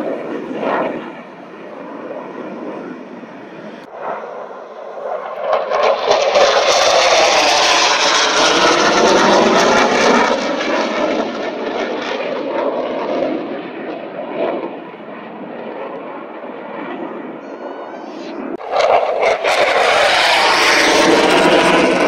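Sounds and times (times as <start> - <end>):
fighter jet flying past: 0.0 - 22.0.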